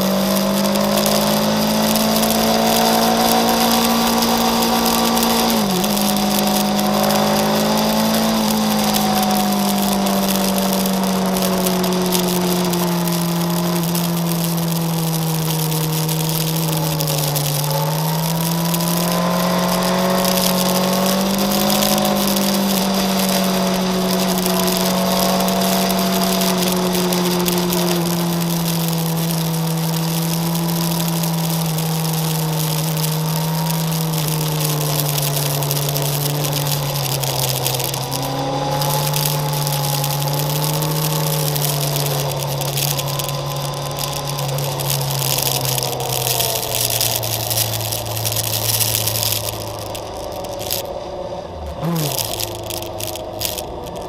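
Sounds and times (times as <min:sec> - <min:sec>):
motorcycle engine running: 0:00.0 - 0:54.0
wind and road noise hiss: 0:00.0 - 0:54.0.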